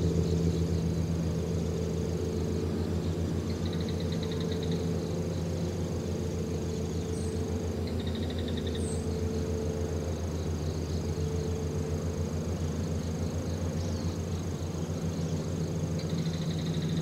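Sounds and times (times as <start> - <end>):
bird trill: 0.0 - 5.6, 6.4 - 11.6, 12.8 - 17.0.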